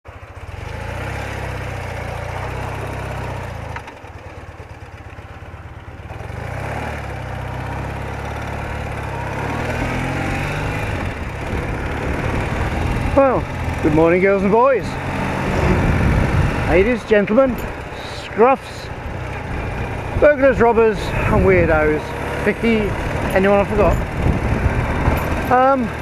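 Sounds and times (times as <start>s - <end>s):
flat-twin motorcycle engine running: 0.0s - 26.0s.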